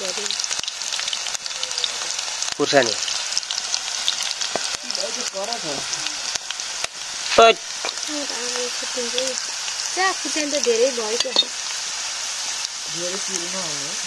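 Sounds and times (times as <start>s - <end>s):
oil sizzling in a wok: 0.0s - 14.0s
fine popping ticks: 0.1s - 7.1s, 7.7s - 11.9s, 12.5s - 13.5s.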